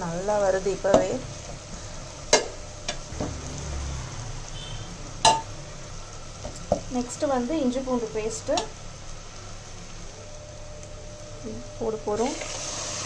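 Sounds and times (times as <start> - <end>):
faint sizzle: 0.0 - 13.0.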